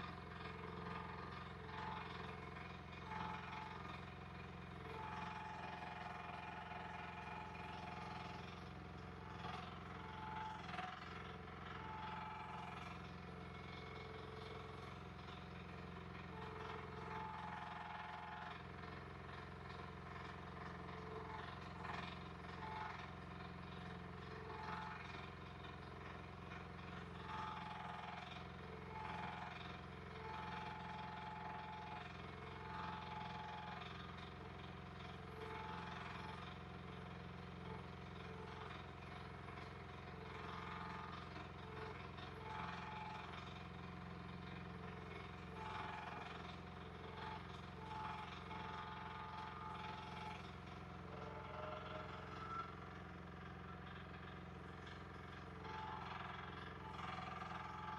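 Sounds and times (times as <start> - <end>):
earthmoving machine engine running: 0.0 - 57.9.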